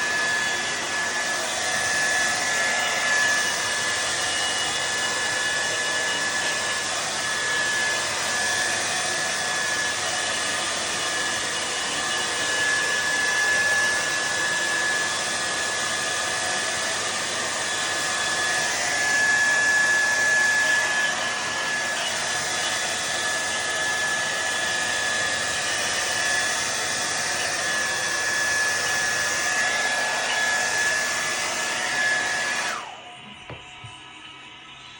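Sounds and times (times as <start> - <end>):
hair dryer running: 0.0 - 34.9.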